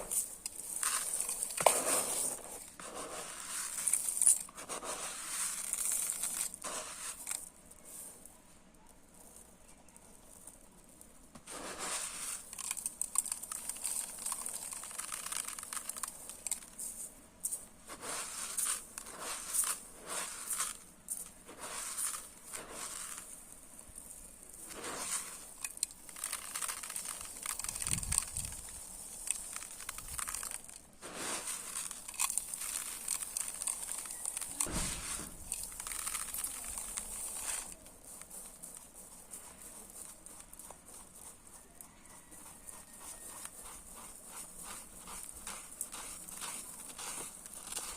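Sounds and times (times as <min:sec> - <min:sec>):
rice grains pouring: 0:00.0 - 0:47.9.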